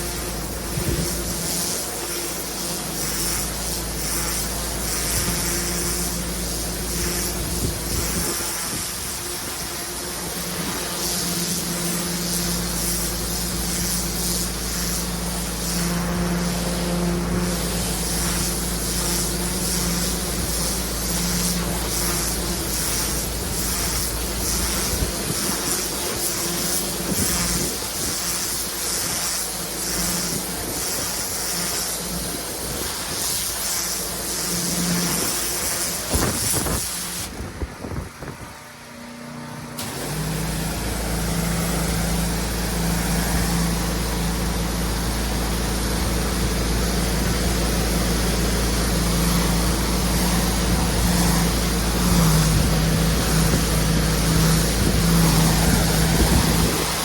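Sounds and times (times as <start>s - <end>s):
water jet hissing on paving: 0.0s - 39.0s, 39.7s - 57.0s
pressure washer engine running: 0.0s - 57.0s.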